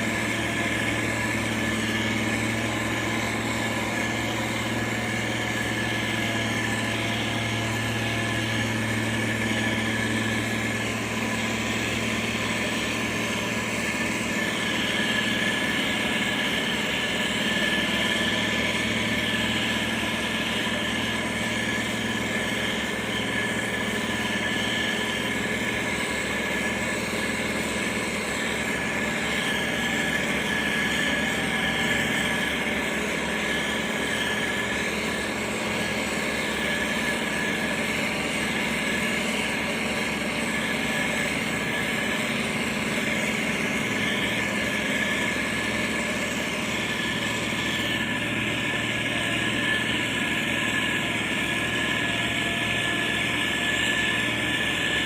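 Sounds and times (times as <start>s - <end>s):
heavy diesel engine droning: 0.0s - 55.0s
high whine: 0.0s - 55.0s.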